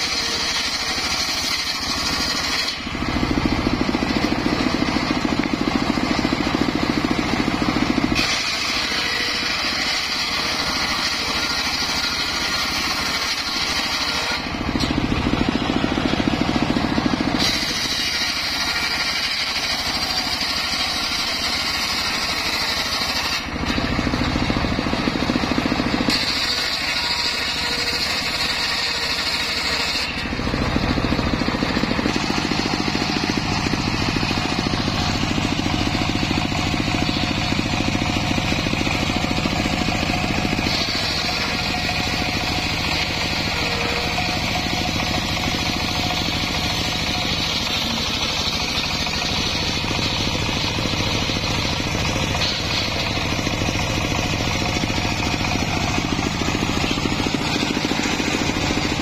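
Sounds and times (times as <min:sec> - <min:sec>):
table saw cutting timber: 0:00.0 - 0:59.0.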